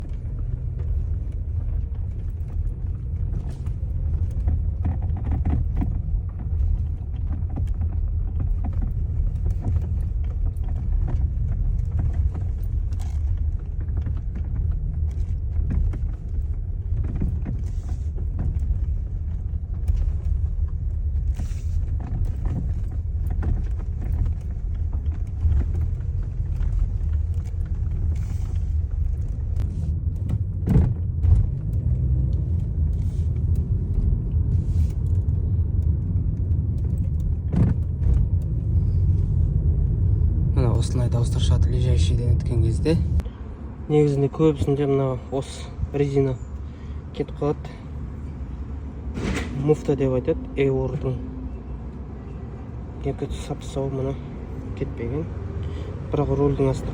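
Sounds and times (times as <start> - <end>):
road rumble in car: 0.0 - 56.9.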